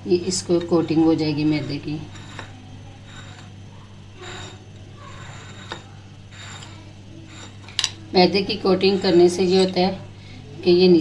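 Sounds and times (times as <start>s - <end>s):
steady low hum: 0.0s - 11.0s
spoon scraping glass bowl: 0.7s - 9.8s.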